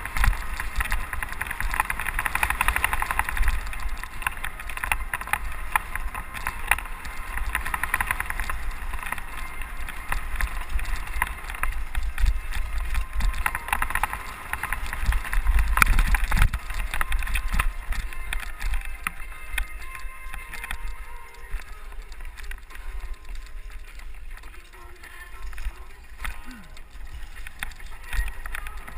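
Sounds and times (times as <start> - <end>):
wind buffeting microphone: 0.0 - 24.8
mountain bike clattering and rattling: 0.0 - 28.9.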